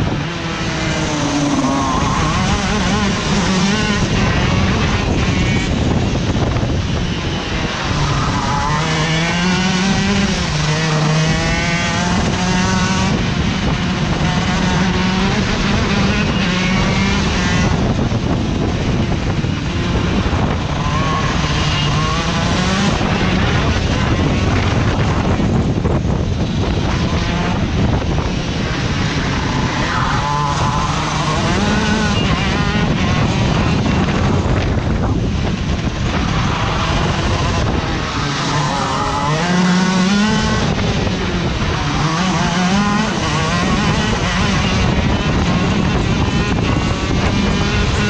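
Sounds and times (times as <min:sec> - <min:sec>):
kart engine revving: 0:00.0 - 0:48.0.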